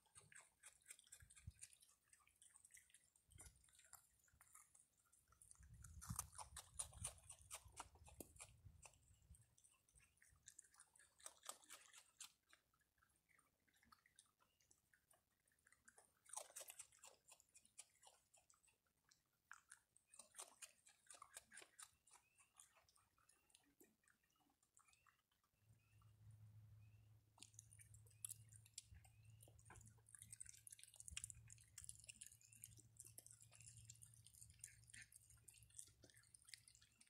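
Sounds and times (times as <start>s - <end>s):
animal chewing and crunching food: 0.0s - 37.0s.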